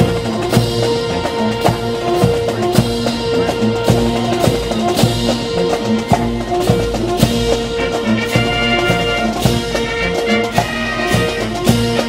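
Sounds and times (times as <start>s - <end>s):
drum kit steady beat: 0.0s - 12.0s
music with held notes: 0.0s - 12.0s.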